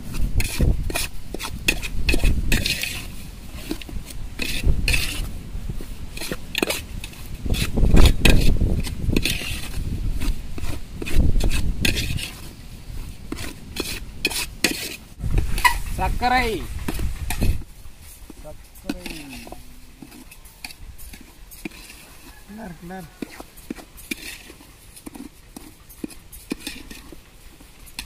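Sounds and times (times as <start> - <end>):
ladle scraping a metal pot: 0.1 - 5.3, 6.1 - 16.0, 16.7 - 28.0.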